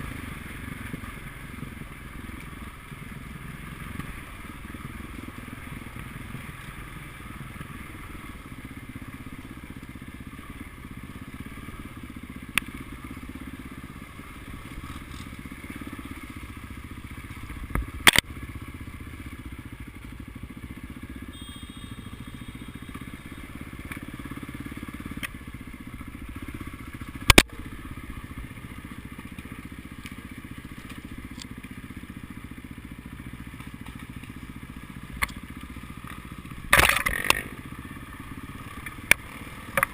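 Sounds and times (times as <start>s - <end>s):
motorcycle engines droning: 0.0s - 39.9s.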